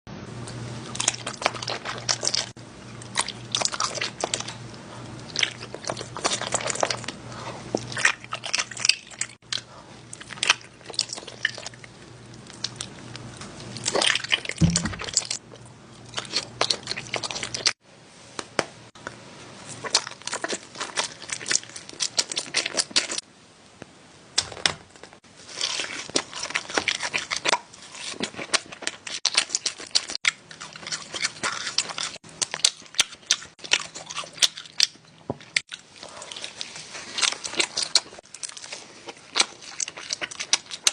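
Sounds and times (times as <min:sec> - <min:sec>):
wet chewing: 0:00.5 - 0:15.4, 0:19.7 - 0:23.2, 0:25.5 - 0:40.9.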